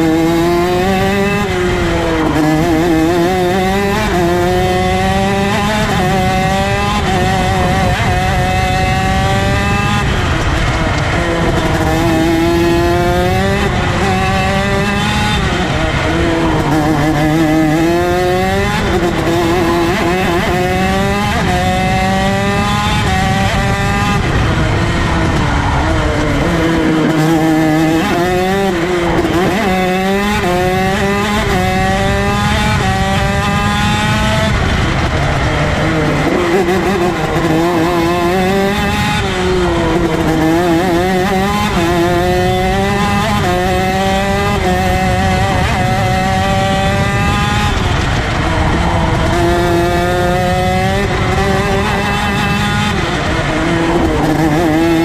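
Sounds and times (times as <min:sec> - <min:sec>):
kart engine shifting gears: 0:00.0 - 0:55.0.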